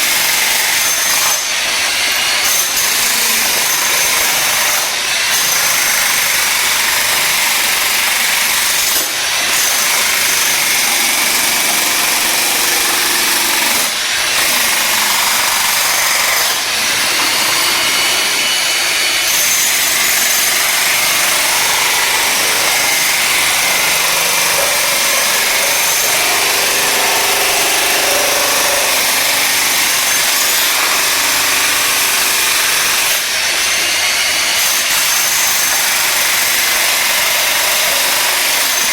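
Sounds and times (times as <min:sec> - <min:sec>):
electric jackhammer hammering: 0:00.0 - 0:38.9.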